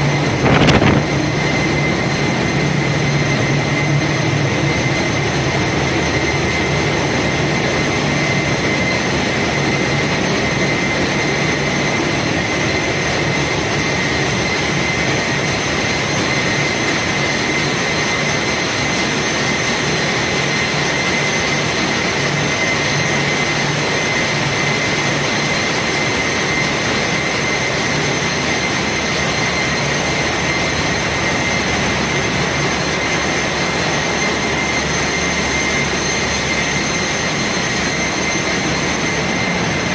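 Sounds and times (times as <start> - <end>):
machinery high whine: 0.0 - 39.9.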